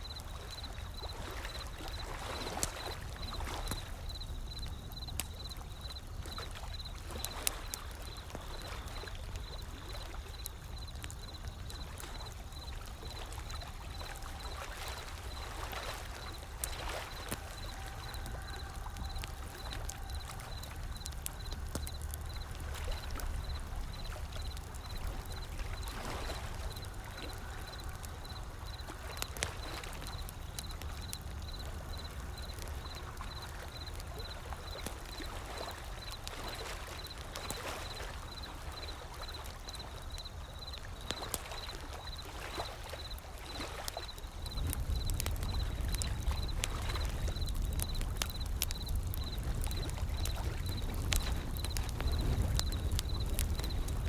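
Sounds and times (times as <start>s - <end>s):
wood fire crackling and popping: 0.0s - 54.0s
ocean waves: 0.1s - 47.6s.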